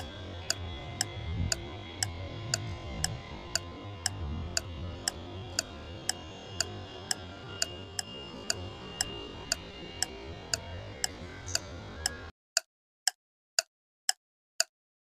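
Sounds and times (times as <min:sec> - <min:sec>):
low background hum: 0:00.0 - 0:12.3.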